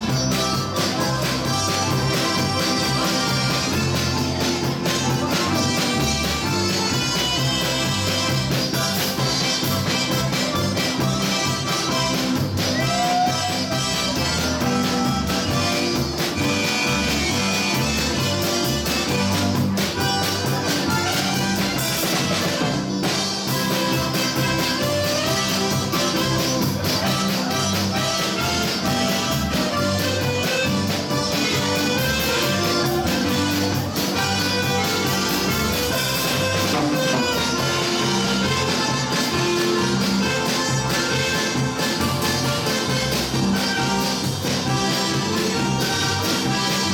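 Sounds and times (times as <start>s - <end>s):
accordion: 0.0s - 46.9s
keyboard: 0.0s - 46.9s
live polka band: 0.0s - 46.9s.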